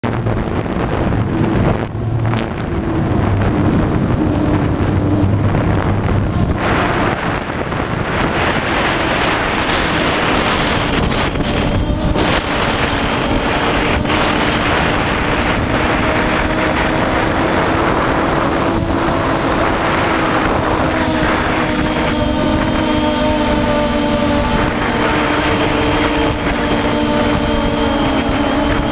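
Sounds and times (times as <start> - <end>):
drone propellers whining: 0.0 - 28.9
wind buffeting microphone: 0.0 - 28.9.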